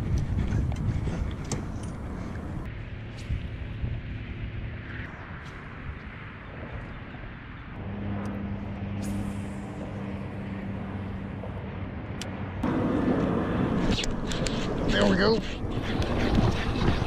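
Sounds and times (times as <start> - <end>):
low engine hum: 0.0 - 17.0
road traffic noise: 0.0 - 17.0.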